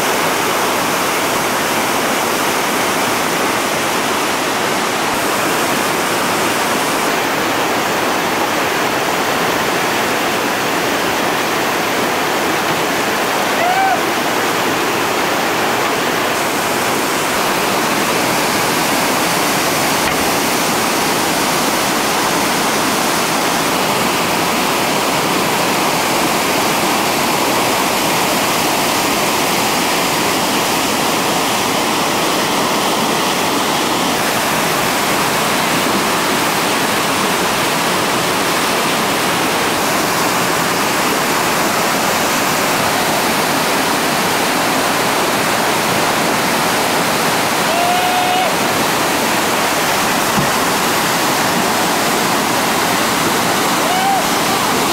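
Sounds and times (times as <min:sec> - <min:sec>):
whitewater rushing over waterfall: 0:00.0 - 0:54.9.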